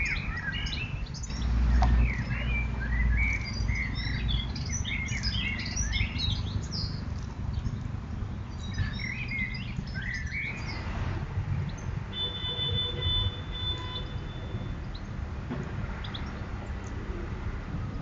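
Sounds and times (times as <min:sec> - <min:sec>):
birds chirping: 0:00.0 - 0:15.2, 0:15.9 - 0:17.1.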